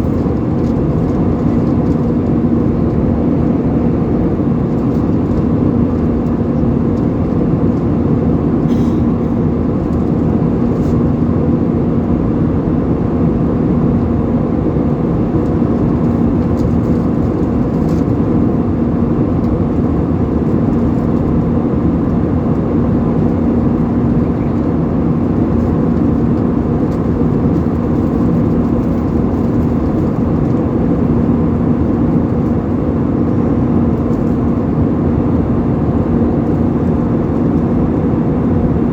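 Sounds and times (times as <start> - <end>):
airplane cabin engine roar: 0.0 - 38.9
constant low hum: 0.0 - 38.9.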